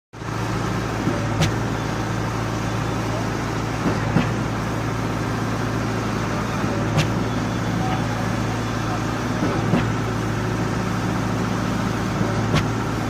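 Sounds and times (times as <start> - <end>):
engine humming: 0.2 - 13.0.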